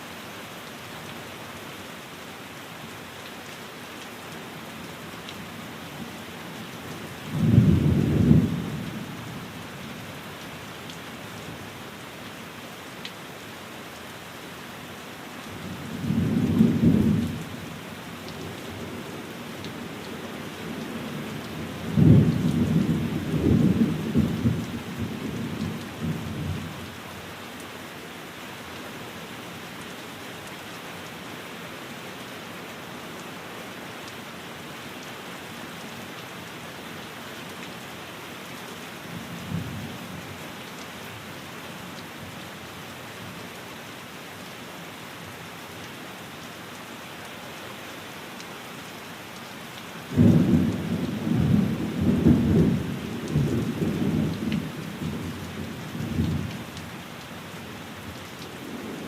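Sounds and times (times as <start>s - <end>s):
rain pattering on a window: 0.1s - 59.0s.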